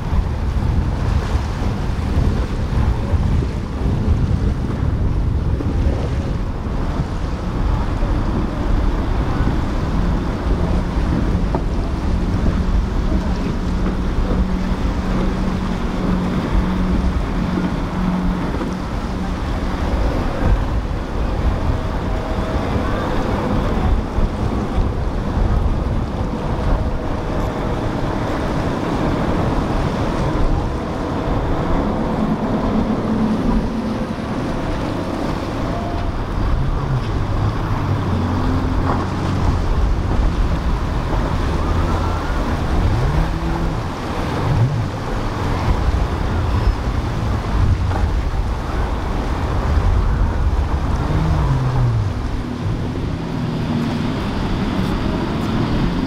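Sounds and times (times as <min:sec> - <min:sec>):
motor yacht engines droning: 0:00.0 - 0:56.0
waves breaking: 0:00.0 - 0:56.0
wind on microphone: 0:00.0 - 0:56.0.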